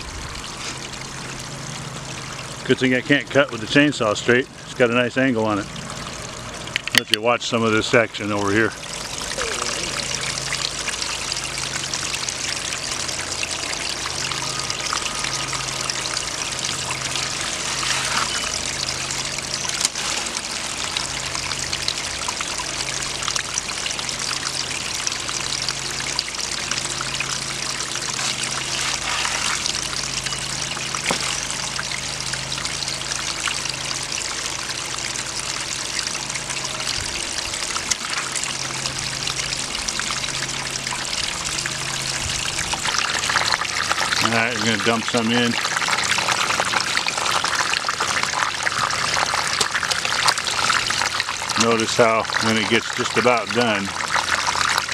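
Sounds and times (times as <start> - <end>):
water rushing over sluice riffles: 5.1 - 54.9.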